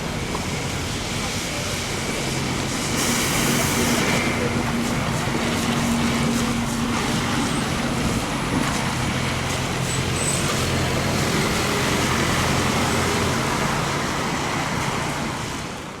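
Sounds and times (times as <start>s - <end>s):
heavy vehicle engine running: 0.0s - 16.0s
street traffic noise: 0.0s - 16.0s.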